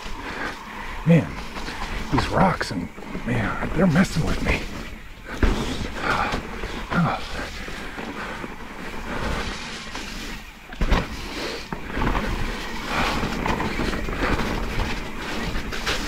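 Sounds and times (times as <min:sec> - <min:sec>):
bike tyre and frame rattle: 0:00.0 - 0:16.0.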